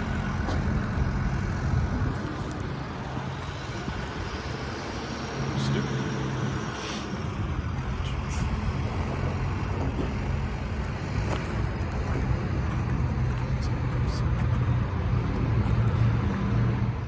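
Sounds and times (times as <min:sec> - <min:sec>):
rough rumbling outdoor noise: 0:00.0 - 0:17.0
vehicle engine humming: 0:00.0 - 0:17.0.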